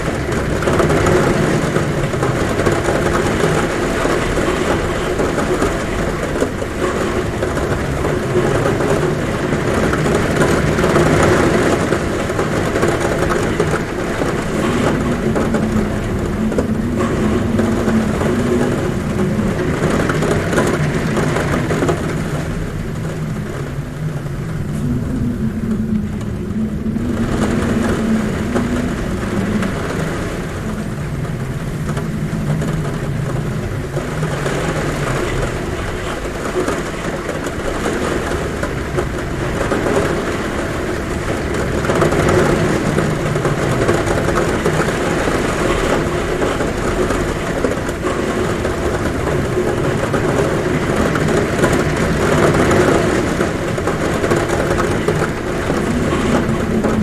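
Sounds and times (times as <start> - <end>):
heavy rain on a roof: 0.0 - 57.0
wind humming at a window: 0.0 - 57.0.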